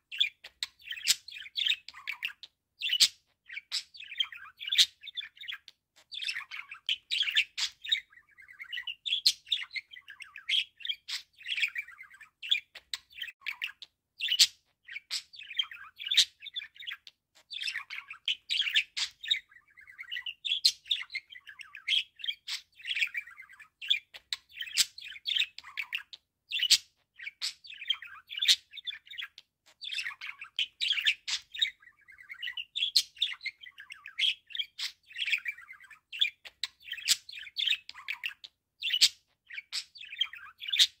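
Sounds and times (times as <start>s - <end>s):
budgerigar warbling and chattering: 0.1s - 41.0s.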